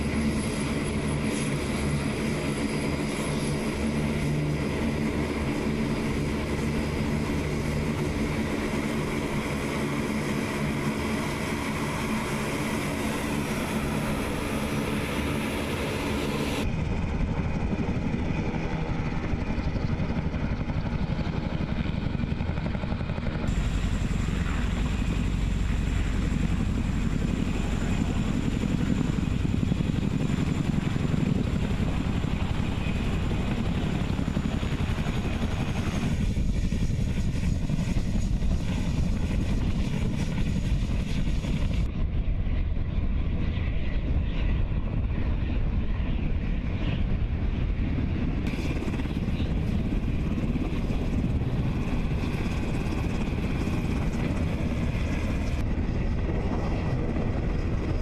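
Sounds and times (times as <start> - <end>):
helicopter hovering: 0.0 - 58.0
thin propeller drone: 0.0 - 58.0
turboprop engines droning: 0.0 - 58.0.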